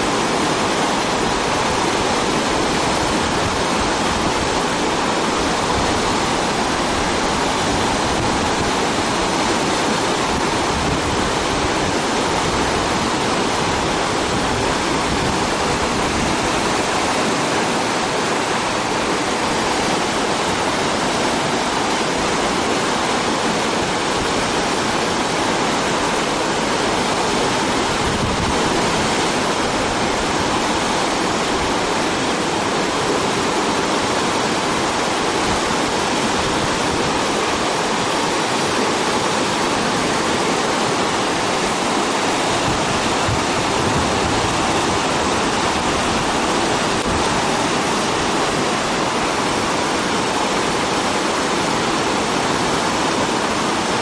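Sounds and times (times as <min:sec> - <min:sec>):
rapids rushing: 0:00.0 - 0:54.0.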